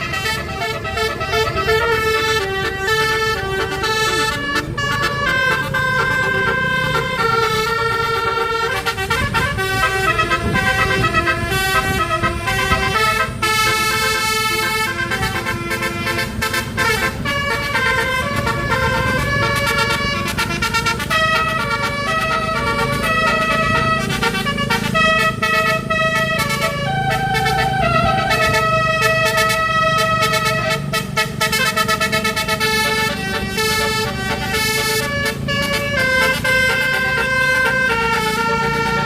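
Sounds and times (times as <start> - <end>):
musical air horn melody: 0.0 - 39.0.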